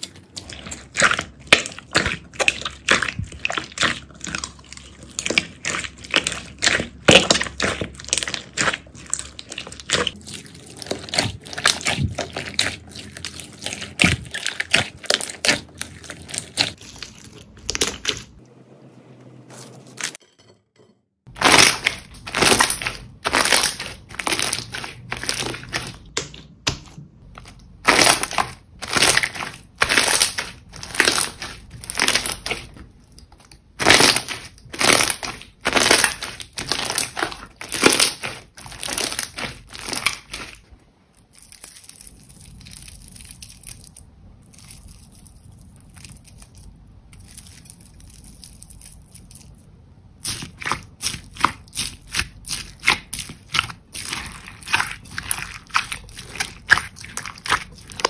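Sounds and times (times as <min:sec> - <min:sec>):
slime squishing: 0:00.0 - 0:18.4, 0:21.3 - 0:58.0.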